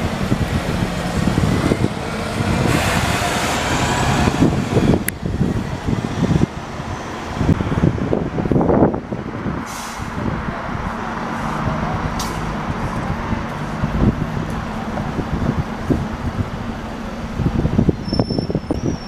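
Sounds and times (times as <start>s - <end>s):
bus diesel engine running: 0.0s - 19.0s
street traffic rumbling: 0.0s - 19.0s.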